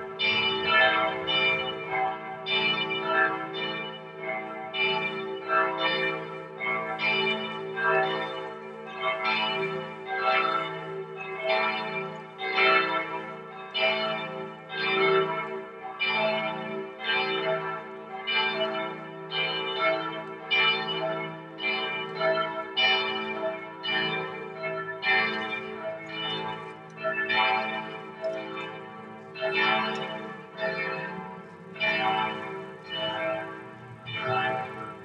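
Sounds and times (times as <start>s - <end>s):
church bells pealing: 0.0s - 35.0s.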